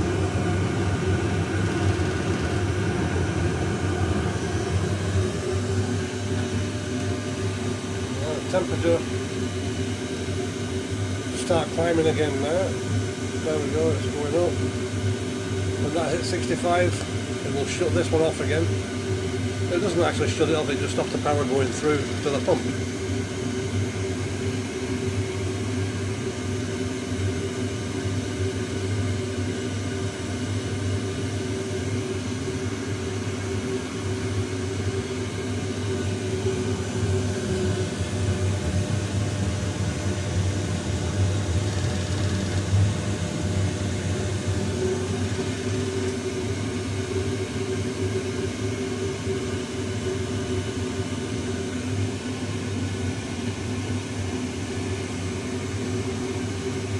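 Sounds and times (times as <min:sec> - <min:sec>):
burner fan whirring hum: 0:00.0 - 0:56.9.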